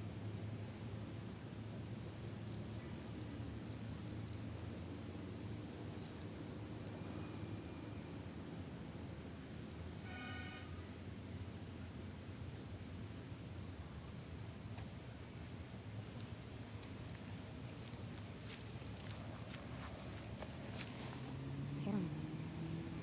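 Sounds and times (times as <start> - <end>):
insects chirping: 0.5 - 23.0.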